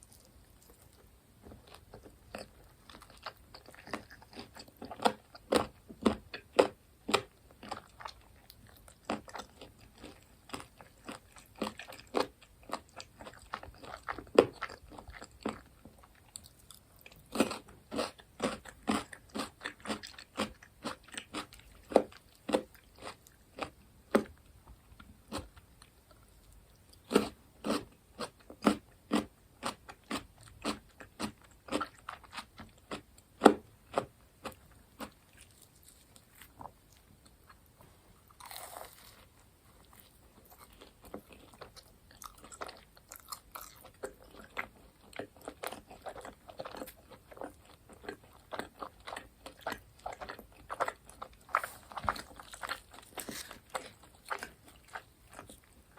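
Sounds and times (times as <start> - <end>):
crunchy food chewing: 0.0 - 55.9.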